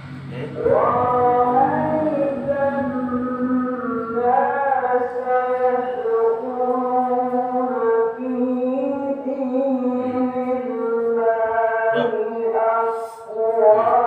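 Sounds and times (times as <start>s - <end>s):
person chanting held notes: 0.0s - 14.0s.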